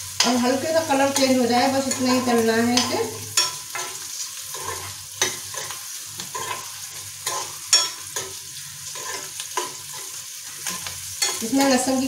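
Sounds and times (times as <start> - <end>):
onions sizzling in oil: 0.0 - 12.0
metal spoon scraping a pan: 0.1 - 12.0.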